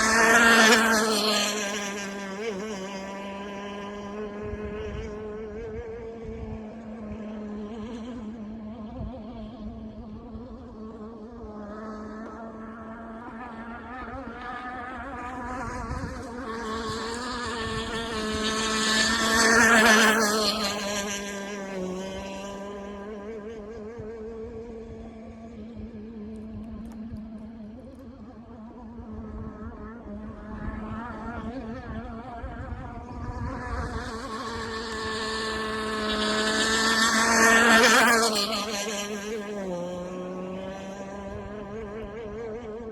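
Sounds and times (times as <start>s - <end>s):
two-stroke boat engine buzzing: 0.0s - 42.9s
wind: 0.0s - 42.9s.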